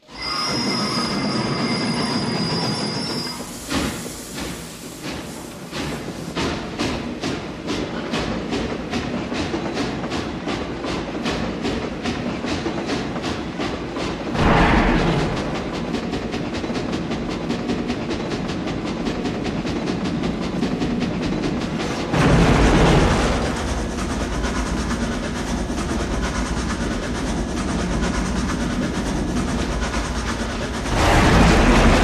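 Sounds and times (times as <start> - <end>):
train clattering: 0.1 - 32.0.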